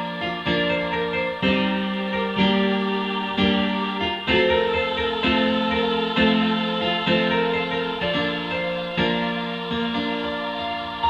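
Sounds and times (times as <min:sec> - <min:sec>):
electronic keyboard chords: 0:00.0 - 0:11.0.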